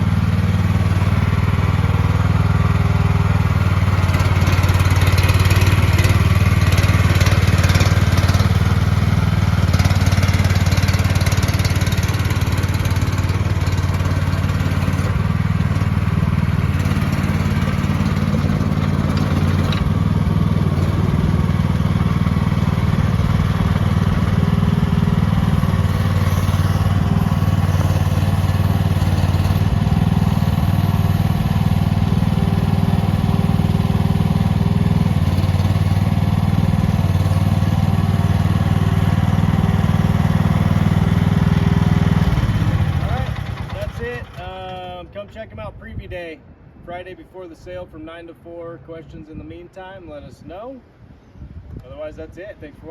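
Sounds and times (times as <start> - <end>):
mini excavator engine running: 0.0 - 45.1.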